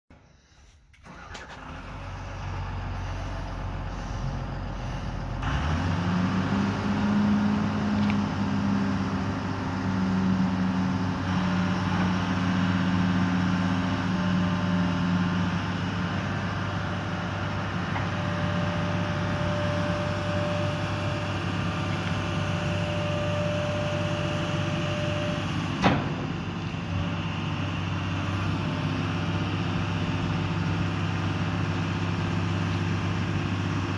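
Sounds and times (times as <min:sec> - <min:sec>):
excavator diesel engine revving: 0:01.0 - 0:33.9.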